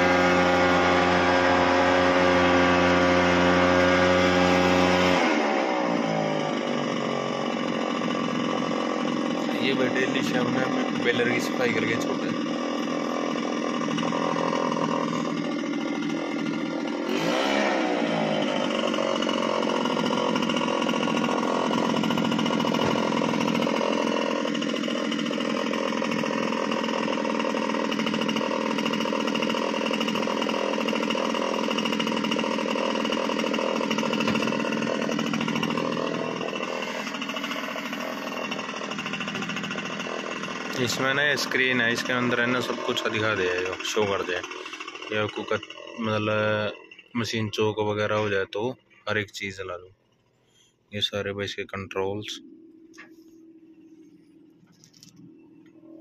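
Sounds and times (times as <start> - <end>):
leaf blower running: 0.0 - 47.4, 52.3 - 56.0.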